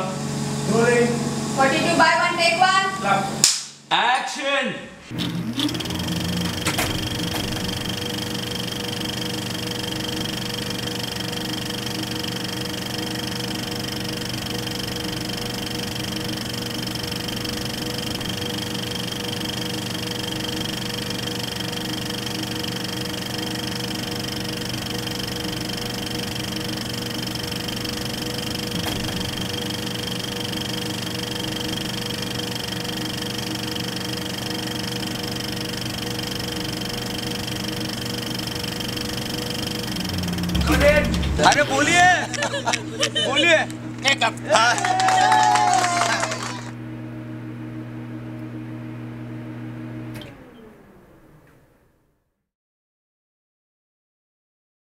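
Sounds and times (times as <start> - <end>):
steady multi-pitched hum: 4.9 - 49.7.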